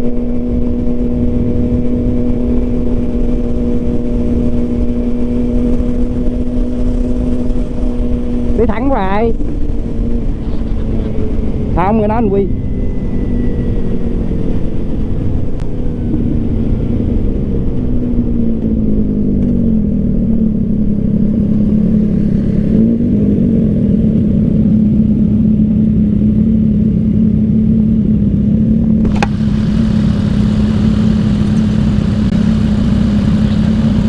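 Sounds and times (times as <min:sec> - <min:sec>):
motorcycle engine cruising: 0:00.0 - 0:34.0
wind and road noise: 0:00.0 - 0:34.0.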